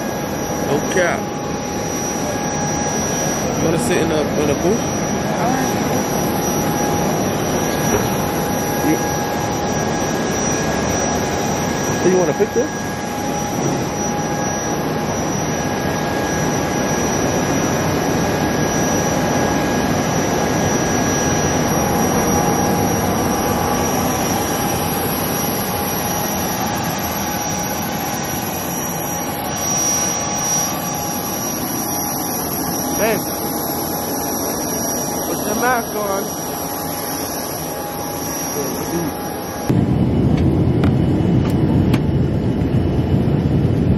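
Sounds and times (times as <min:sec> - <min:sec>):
high-pitched whine: 0:00.0 - 0:43.9
jet engine roaring: 0:00.0 - 0:43.9.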